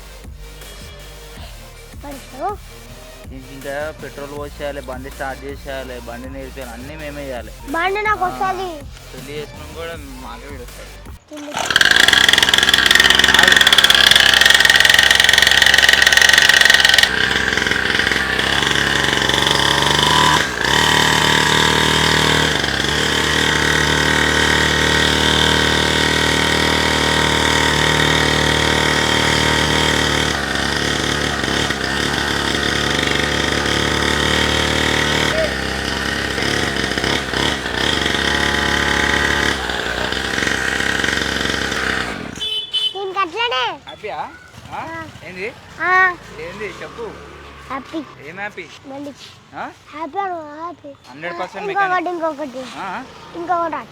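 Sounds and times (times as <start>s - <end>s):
small dirt bike engine running: 3.4s - 8.9s, 11.3s - 50.1s, 50.9s - 53.9s.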